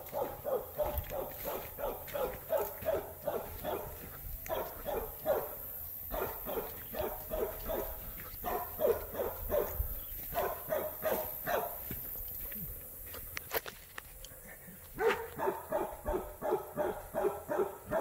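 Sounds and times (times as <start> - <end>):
dogs barking: 0.0 - 12.4, 14.8 - 18.0.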